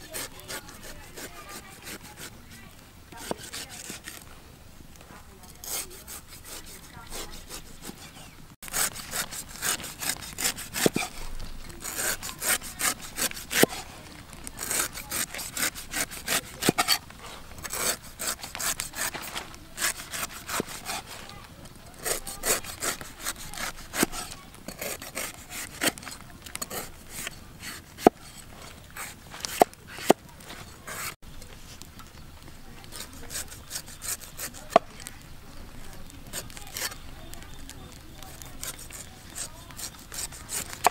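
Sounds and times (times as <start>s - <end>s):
cleaver scraping fruit rind: 0.0s - 4.3s, 5.1s - 32.1s, 32.7s - 40.9s.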